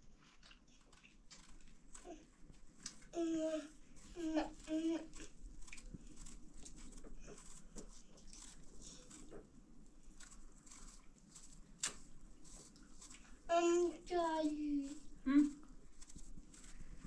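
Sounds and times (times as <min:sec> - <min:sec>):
fruit being peeled and cut: 0:00.0 - 0:17.0.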